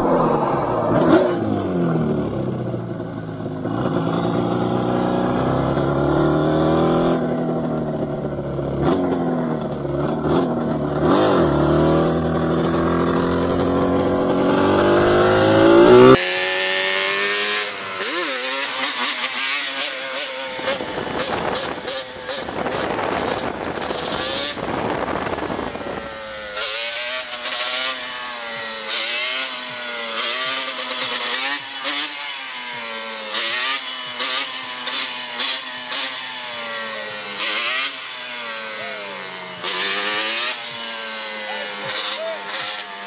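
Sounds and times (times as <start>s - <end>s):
two-stroke engine revving: 0.0s - 43.0s.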